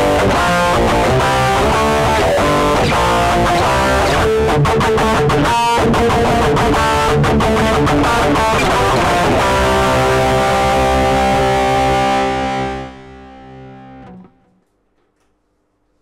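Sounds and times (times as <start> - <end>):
electric guitar playing: 0.0 - 14.6.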